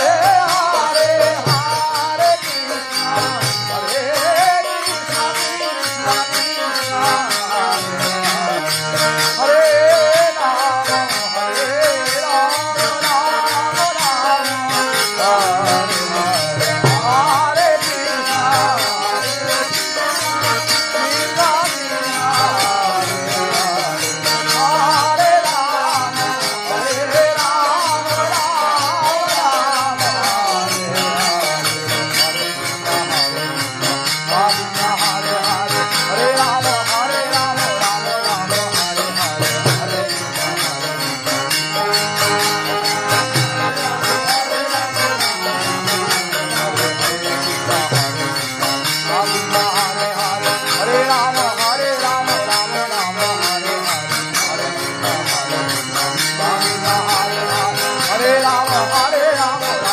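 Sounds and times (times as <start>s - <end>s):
bright jingling: 0.0s - 59.9s.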